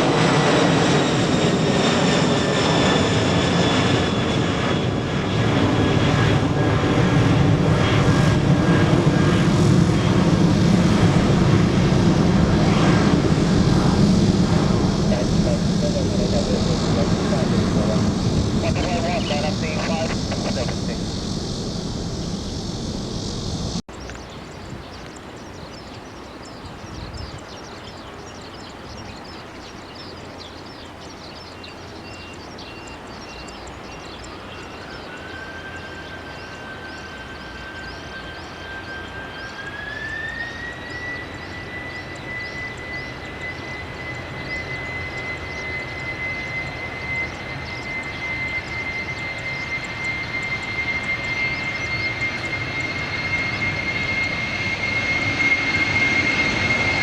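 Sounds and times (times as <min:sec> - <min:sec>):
rising engine whine: 0:00.0 - 0:25.5, 0:32.4 - 0:57.0
jet engines running: 0:00.0 - 0:57.0.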